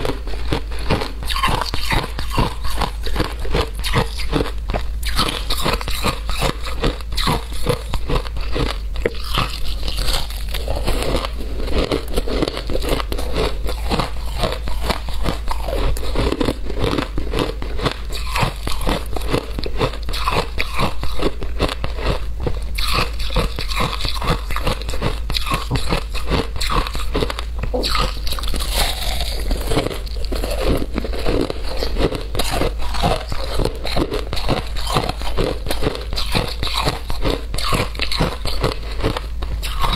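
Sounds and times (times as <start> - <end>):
teeth crunching shaved ice: 0.0 - 39.9.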